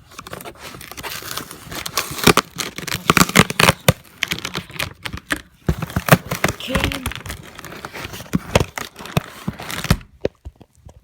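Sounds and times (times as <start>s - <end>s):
packaging being torn and crinkled: 0.0s - 10.4s.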